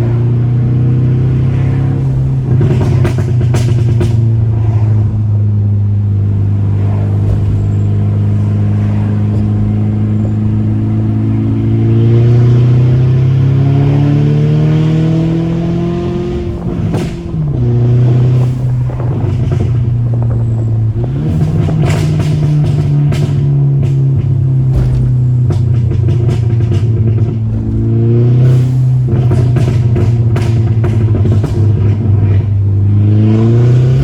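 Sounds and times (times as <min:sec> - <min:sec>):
car engine accelerating: 0:00.0 - 0:34.0
exhaust pops and crackles: 0:00.0 - 0:34.0.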